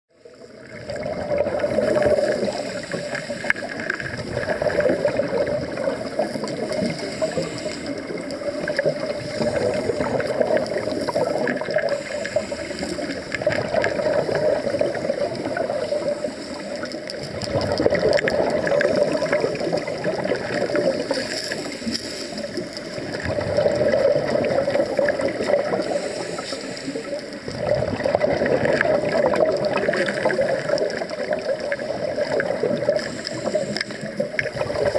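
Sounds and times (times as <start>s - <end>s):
underwater regulator bubbles: 0.1s - 34.9s.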